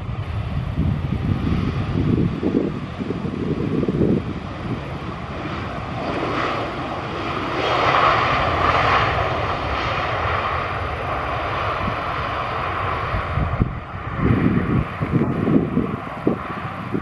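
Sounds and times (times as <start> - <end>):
jet engines rumbling and hissing: 0.0 - 17.0.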